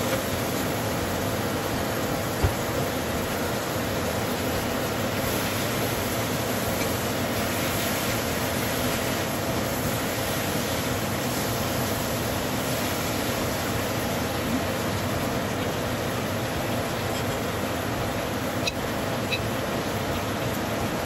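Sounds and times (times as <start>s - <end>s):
food sizzling in a wok: 0.0s - 19.5s.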